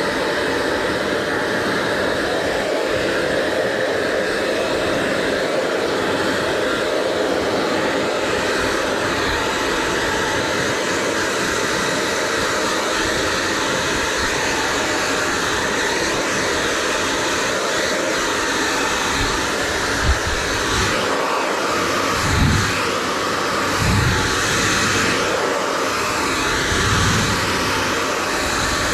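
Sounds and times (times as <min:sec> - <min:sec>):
hair dryer blowing: 0:00.0 - 0:28.9.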